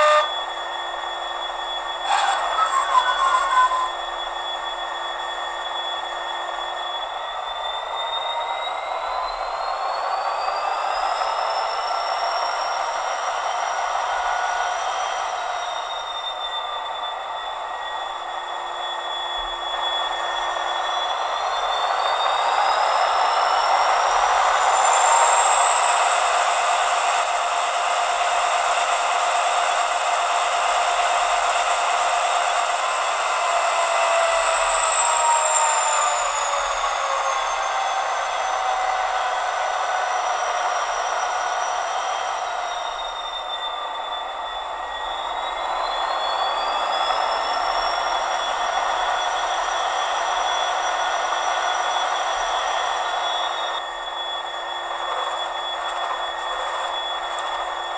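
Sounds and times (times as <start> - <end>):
diesel engine with turbo whine: 0.0 - 57.9.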